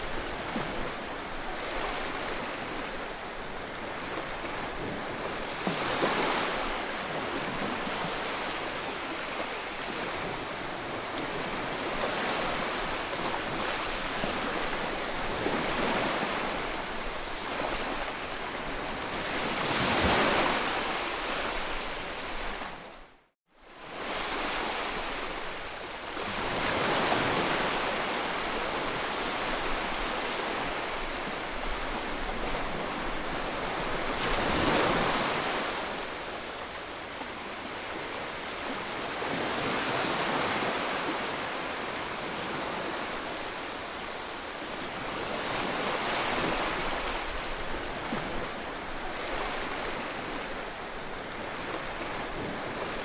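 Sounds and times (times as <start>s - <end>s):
ocean waves breaking: 0.0s - 22.9s, 26.2s - 53.0s.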